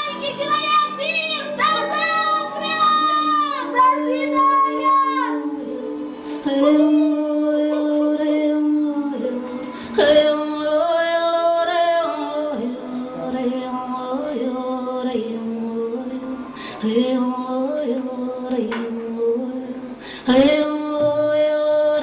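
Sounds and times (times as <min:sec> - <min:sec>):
person singing long notes: 0:00.0 - 0:22.0.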